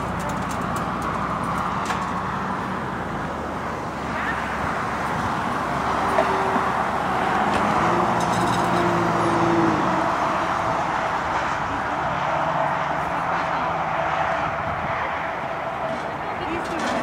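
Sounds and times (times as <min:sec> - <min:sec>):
road traffic noise: 0:00.0 - 0:17.0
vehicle engine hum: 0:00.0 - 0:17.0.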